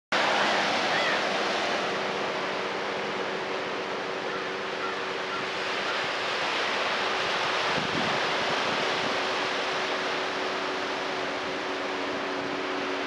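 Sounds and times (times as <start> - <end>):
surf breaking on rocky beach: 0.2 - 13.0.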